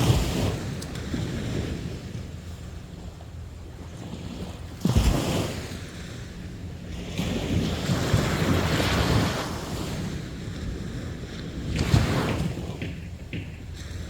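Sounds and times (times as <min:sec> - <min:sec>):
sea waves washing onto beach: 0:00.0 - 0:14.0.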